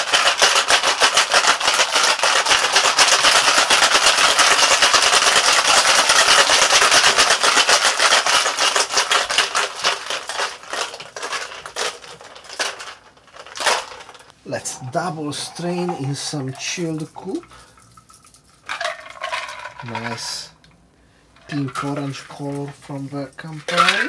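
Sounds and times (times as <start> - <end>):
ice rattling in cocktail shaker: 0.0 - 20.5, 21.4 - 24.0.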